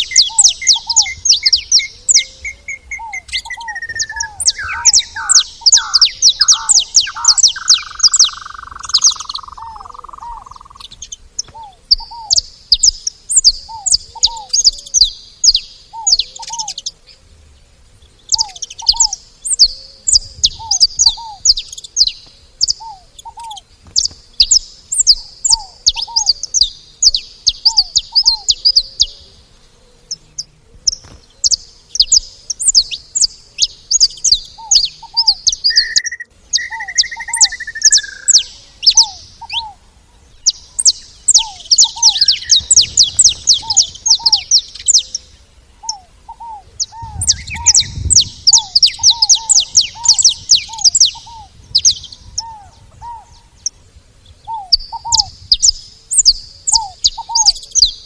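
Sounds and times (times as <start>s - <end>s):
finches chirping: 0.0s - 17.1s, 18.1s - 53.8s, 54.5s - 58.0s
lower bird call: 0.0s - 58.0s.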